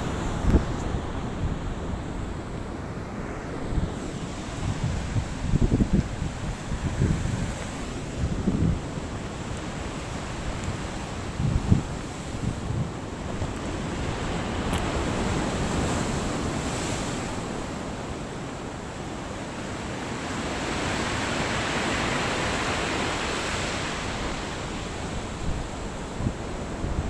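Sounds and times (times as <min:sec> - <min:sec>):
waves breaking: 0:00.0 - 0:27.0
wind buffeting microphone: 0:00.0 - 0:27.0.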